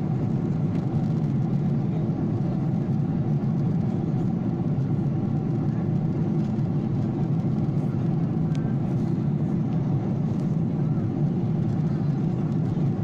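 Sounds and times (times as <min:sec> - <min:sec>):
airliner engines droning: 0:00.0 - 0:13.0.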